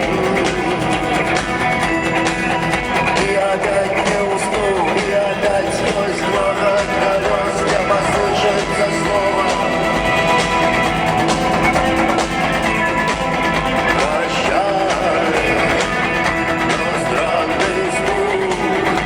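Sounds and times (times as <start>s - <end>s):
electric guitars: 0.0s - 19.0s
live rock band playing: 0.0s - 19.0s.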